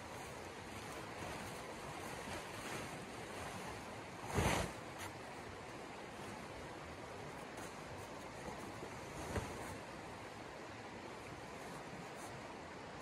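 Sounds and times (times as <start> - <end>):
stream flowing: 0.0 - 13.0
tent fabric flapping: 0.0 - 13.0.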